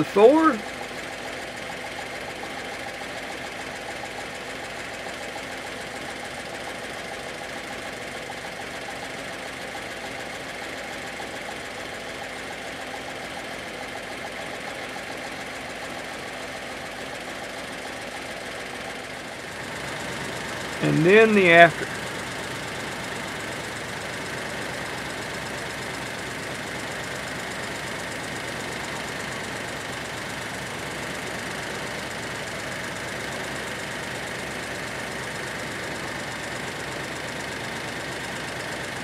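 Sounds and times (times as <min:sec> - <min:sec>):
truck engine idling: 0:00.0 - 0:21.2, 0:21.8 - 0:39.0.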